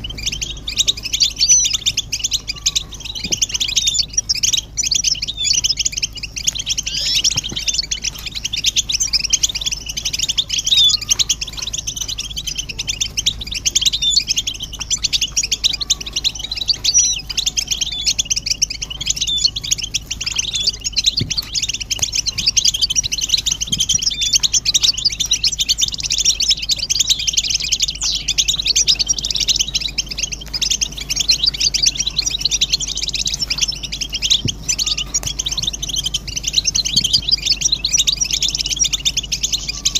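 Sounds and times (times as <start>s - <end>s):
finches twittering and singing: 0.0s - 39.9s.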